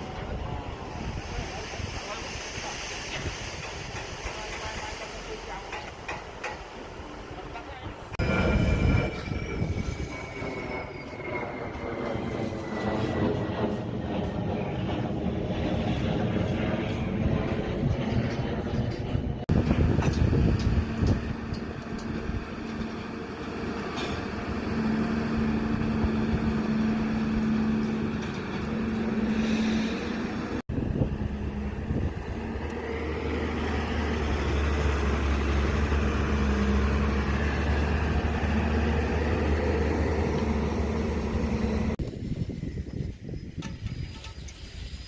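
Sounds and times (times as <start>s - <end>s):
large engine humming: 0.0s - 42.1s.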